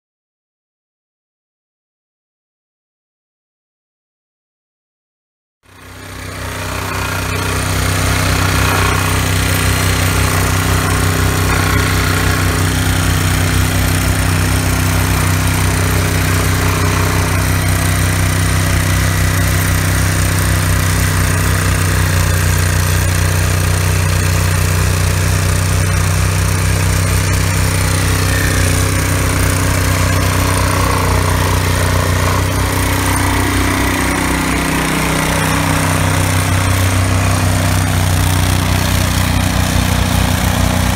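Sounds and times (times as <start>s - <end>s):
engine drone: 5.7s - 40.9s
fast hammering vibration: 5.7s - 40.9s.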